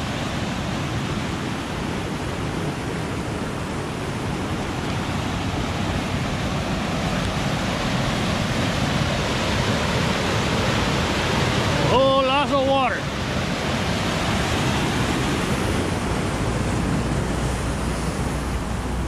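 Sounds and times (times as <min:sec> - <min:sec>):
water rushing over a spillway: 0:00.0 - 0:19.0.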